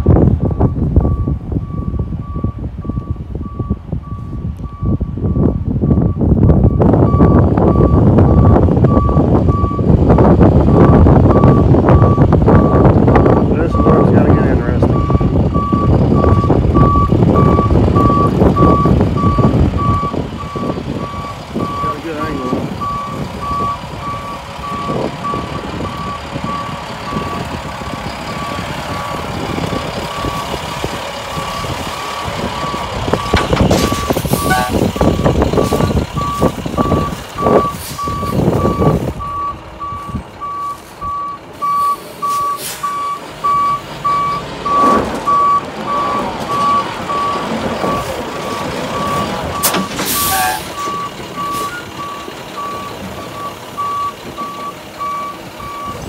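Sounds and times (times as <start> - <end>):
wind buffeting microphone: 0.0 - 41.8, 42.9 - 56.0
truck engine running: 0.0 - 56.0
truck reversing alarm beeping: 0.0 - 56.0.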